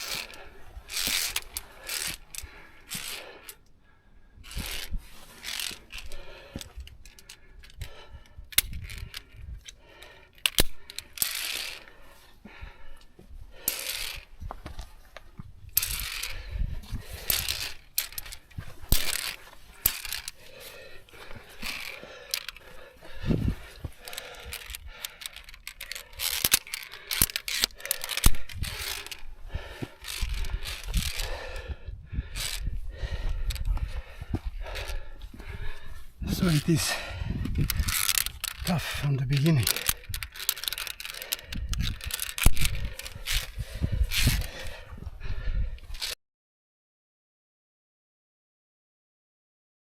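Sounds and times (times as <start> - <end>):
carabiners clinking on steel cable: 0.0 - 3.6, 4.4 - 12.2, 12.9 - 14.3, 15.6 - 34.0, 34.6 - 35.6, 36.2 - 44.9, 45.8 - 46.2.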